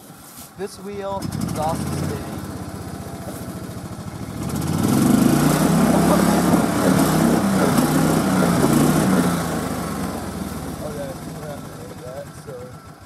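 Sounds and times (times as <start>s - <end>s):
golf cart engine revving: 1.0s - 13.0s
wheels spinning: 1.2s - 13.0s.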